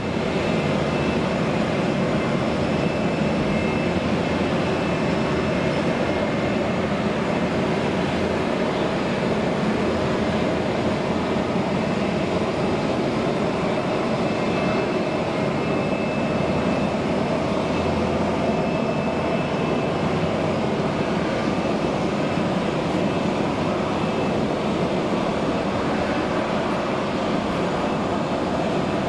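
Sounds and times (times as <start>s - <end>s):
faint high whine: 0.0s - 29.0s
jet engines idling: 0.0s - 29.0s.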